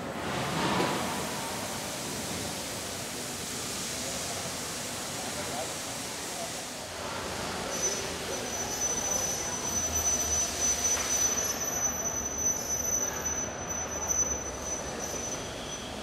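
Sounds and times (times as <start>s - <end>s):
factory machinery rumble and hiss: 0.0s - 16.0s.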